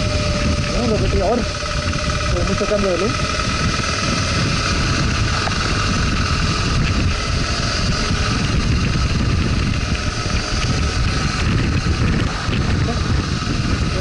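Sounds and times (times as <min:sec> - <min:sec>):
motorcycle engine running: 0:00.0 - 0:14.0
wind rumbling on microphone: 0:00.0 - 0:14.0.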